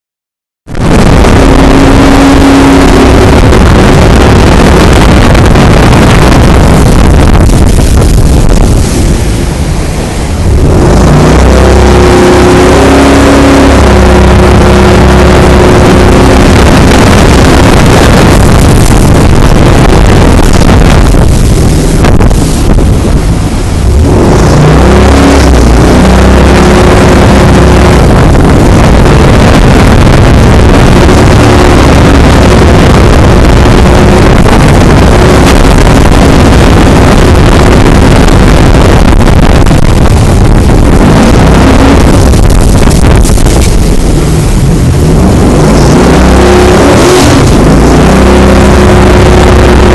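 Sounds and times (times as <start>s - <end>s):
rush of wind and water: 0.6s - 49.9s
speedboat engine drone: 0.7s - 49.9s.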